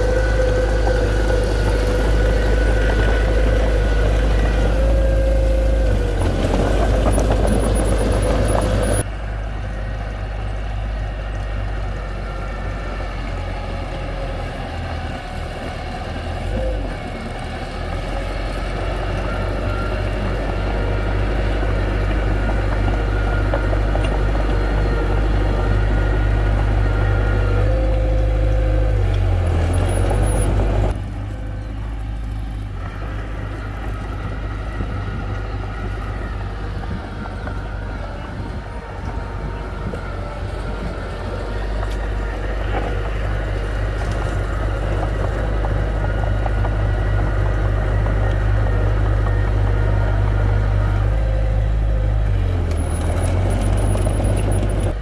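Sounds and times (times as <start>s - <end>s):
heavy machinery engine running: 0.0s - 55.0s.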